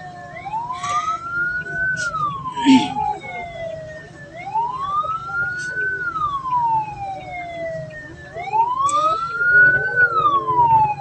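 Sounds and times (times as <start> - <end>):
electronic siren wailing: 0.0 - 11.0
low vehicle rumble: 0.0 - 11.0.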